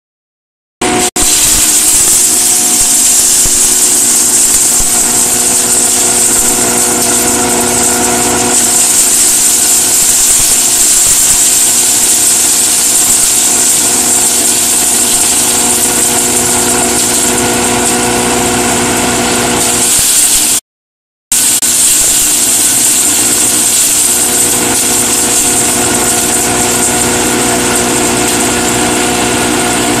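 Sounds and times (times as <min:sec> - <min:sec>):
machine hum: 0:00.8 - 0:20.6, 0:21.3 - 0:30.0
hammer mill grinding hiss: 0:00.9 - 0:20.6, 0:21.4 - 0:30.0.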